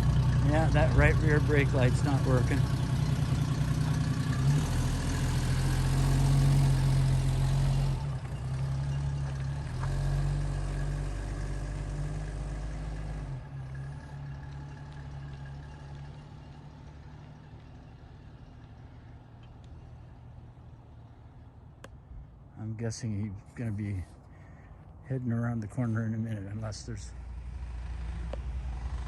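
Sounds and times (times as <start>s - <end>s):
car engine driving away: 0.0s - 29.0s.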